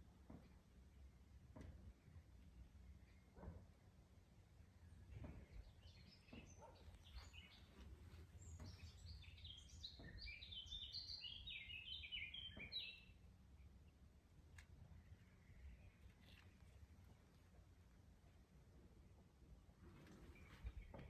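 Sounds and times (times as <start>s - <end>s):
songbirds chirping: 2.0s - 21.0s.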